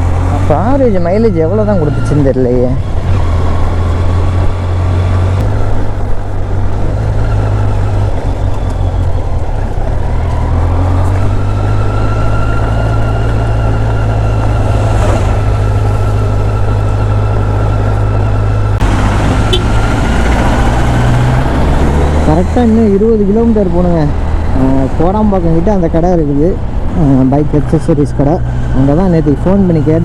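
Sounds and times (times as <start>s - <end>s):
motorcycle engine droning: 0.0s - 30.0s
road and traffic noise: 0.0s - 30.0s.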